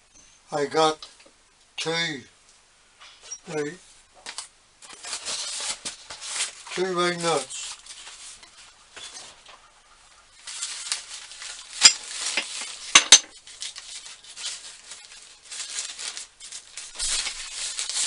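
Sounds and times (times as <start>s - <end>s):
rustling handling noise: 2.4s - 18.0s.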